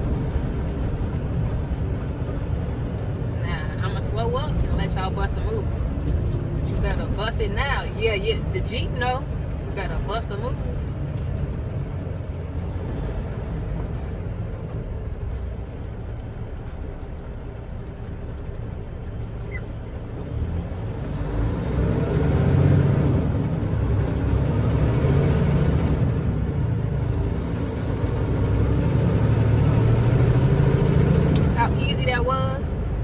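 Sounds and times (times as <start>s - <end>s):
truck diesel engine: 0.0s - 33.0s.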